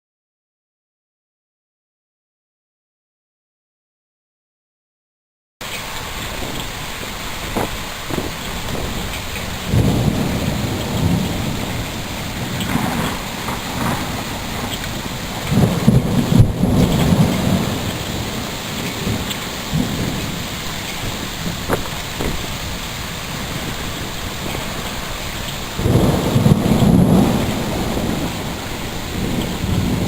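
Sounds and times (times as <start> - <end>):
steady rain: 5.6 - 30.0.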